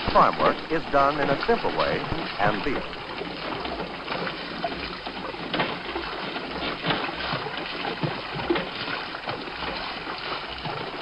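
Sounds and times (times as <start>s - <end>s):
water splashing and pouring: 0.0s - 11.0s
water wheel knocks: 0.0s - 11.0s.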